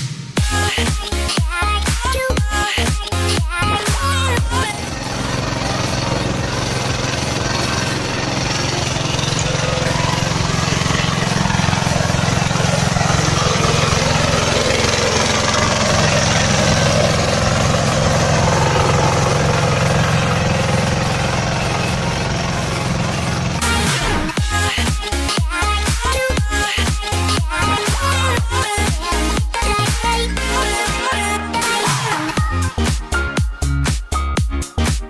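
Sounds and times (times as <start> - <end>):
diesel engine running under load: 0.5 - 31.4.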